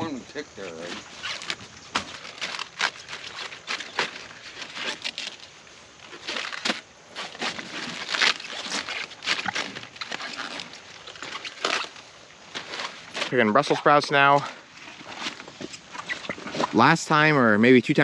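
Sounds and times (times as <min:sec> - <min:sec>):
leafy rustling: 0:00.0 - 0:18.0
cabbage leaves snapping and crunching: 0:00.7 - 0:16.8.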